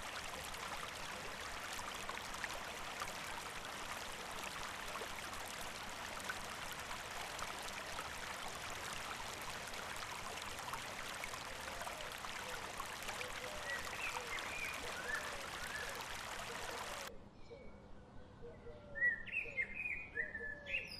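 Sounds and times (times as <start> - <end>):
stream running: 0.0 - 17.1.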